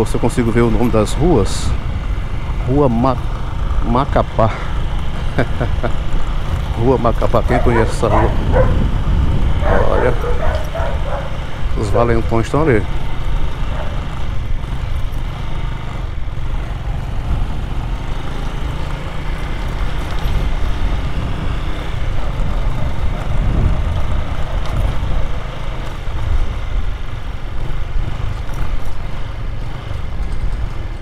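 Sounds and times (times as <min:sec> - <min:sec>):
motorcycle engine rumble: 0:00.0 - 0:31.0.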